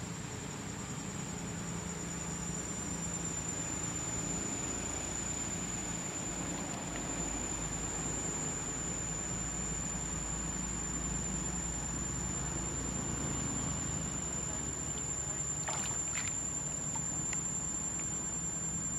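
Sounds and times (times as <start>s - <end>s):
high-pitched whine: 0.0s - 18.9s
outdoor background noise: 0.0s - 18.9s.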